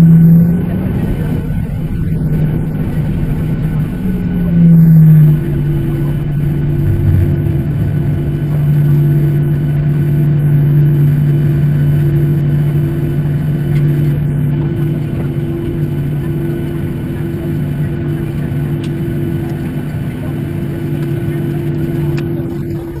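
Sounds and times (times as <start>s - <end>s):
jet engines humming from cabin: 0.0s - 23.0s.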